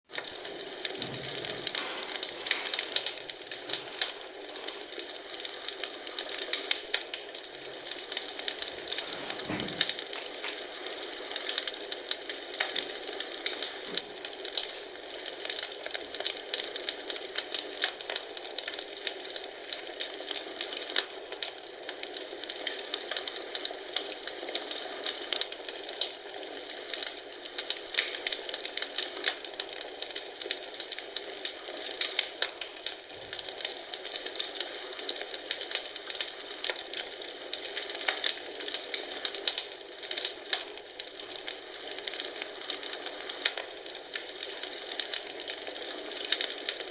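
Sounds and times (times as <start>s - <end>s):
wood fire crackling: 0.1s - 46.9s.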